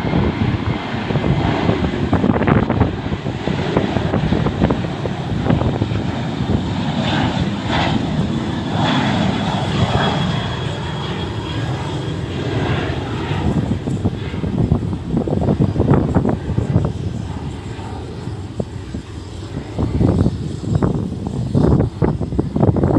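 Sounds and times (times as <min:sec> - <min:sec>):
jet engines roaring: 0:00.0 - 0:22.9
wind buffeting microphone: 0:00.0 - 0:22.9.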